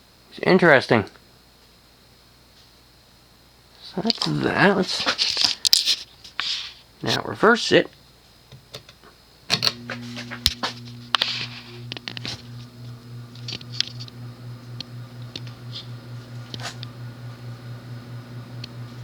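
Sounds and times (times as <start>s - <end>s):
ceiling fan humming: 0.0s - 19.0s.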